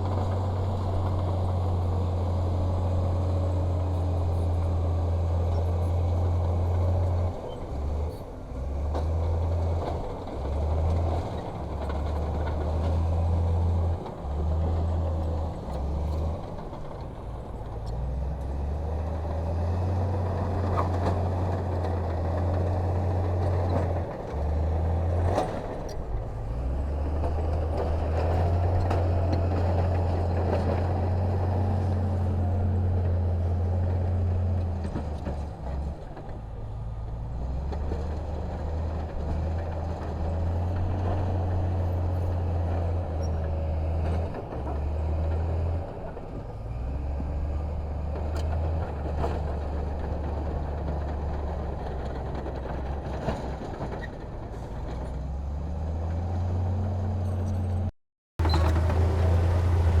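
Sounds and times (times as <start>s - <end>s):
diesel machinery engine hum: 0.0s - 60.0s.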